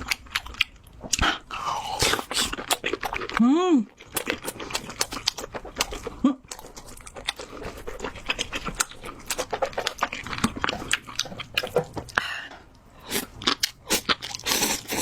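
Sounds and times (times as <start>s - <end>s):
chewing with mouth clicks: 0.0s - 15.0s.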